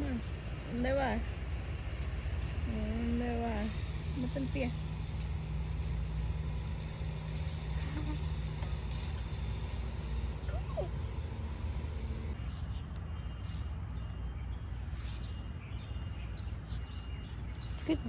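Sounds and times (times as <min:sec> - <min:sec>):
engine-like hum: 0:00.0 - 0:18.0.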